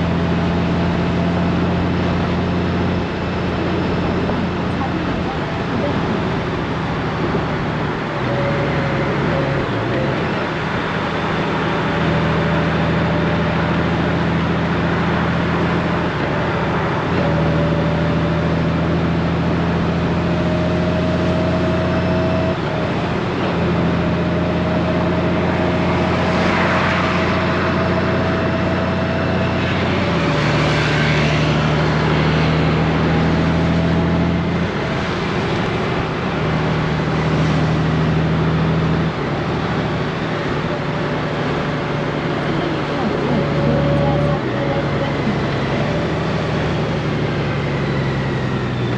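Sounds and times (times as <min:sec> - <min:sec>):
motorcycle engine humming: 0:00.0 - 0:48.9
road noise: 0:00.0 - 0:48.9.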